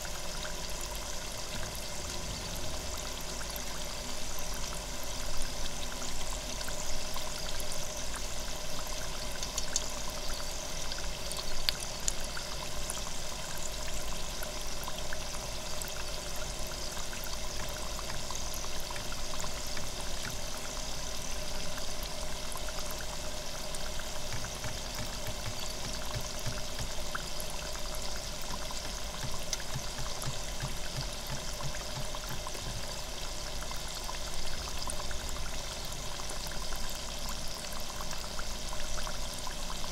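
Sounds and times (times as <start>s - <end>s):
oil bubbling and sizzling in fryer: 0.0s - 39.9s.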